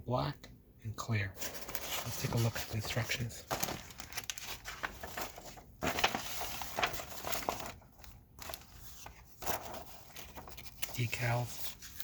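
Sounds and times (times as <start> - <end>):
paper crinkling and rustling: 1.4 - 12.0.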